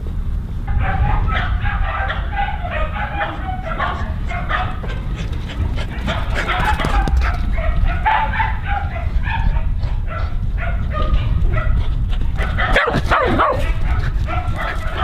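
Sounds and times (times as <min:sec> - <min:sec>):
dogs barking and yipping: 0:00.7 - 0:15.0.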